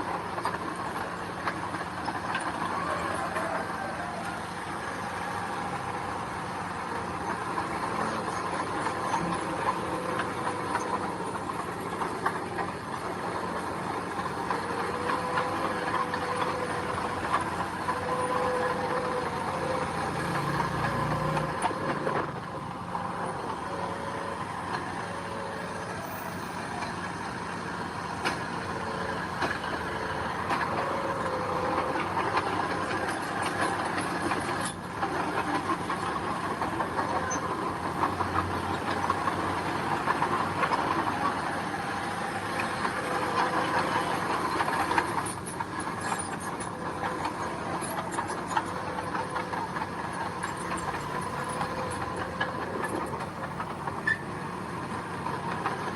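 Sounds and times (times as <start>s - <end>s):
diesel engine under load: 0.0s - 55.9s
machinery rattling and clanking: 0.0s - 55.9s.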